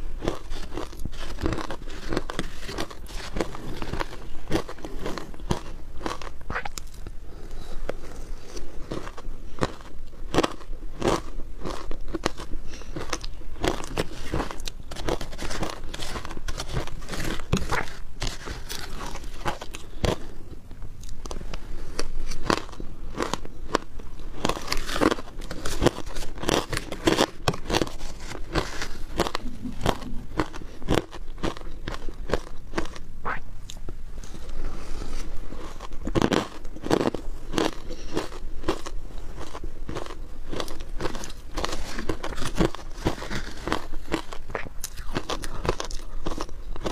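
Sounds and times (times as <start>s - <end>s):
crunchy chewing of shaved ice: 0.0s - 46.9s.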